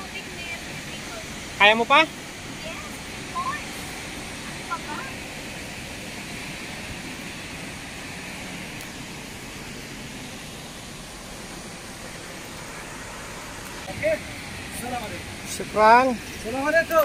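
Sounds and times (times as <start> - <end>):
distant waterfall rushing: 0.0 - 17.0.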